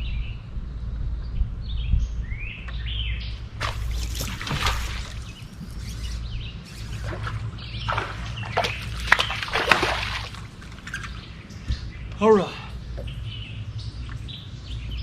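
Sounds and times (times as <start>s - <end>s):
low rumble of wind: 0.0s - 15.0s
birds chirping: 1.6s - 15.0s.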